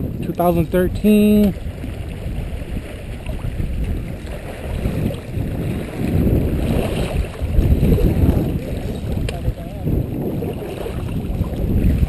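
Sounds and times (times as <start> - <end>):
river water: 0.0 - 12.0
wind buffeting microphone: 0.0 - 12.0.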